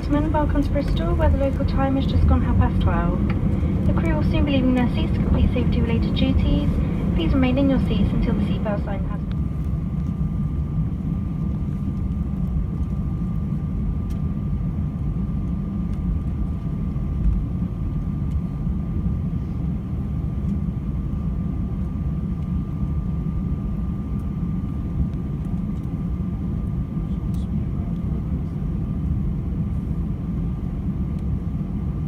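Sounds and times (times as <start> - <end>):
low engine rumble: 0.0 - 32.0.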